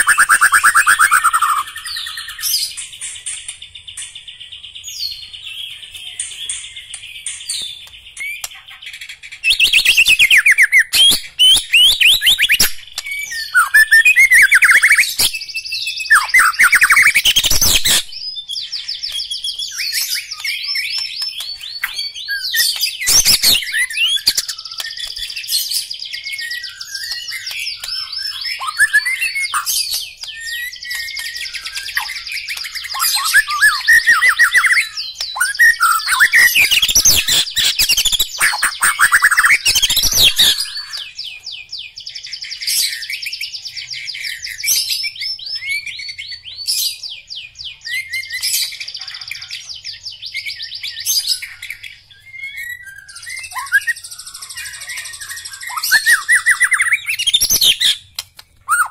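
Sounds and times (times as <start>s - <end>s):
bird singing trills and whistles: 0.0s - 58.9s
soft bird twittering: 0.0s - 58.9s.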